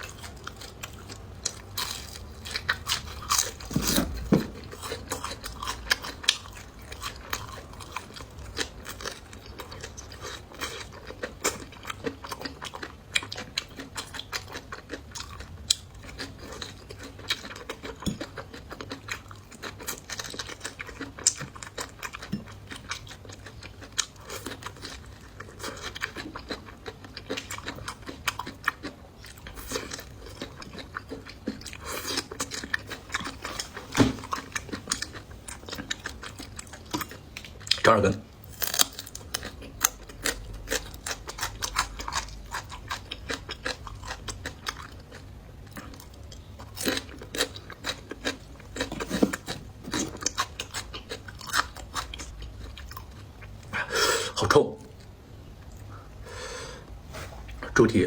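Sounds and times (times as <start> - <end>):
person chewing crunchy food: 0.0 - 57.8.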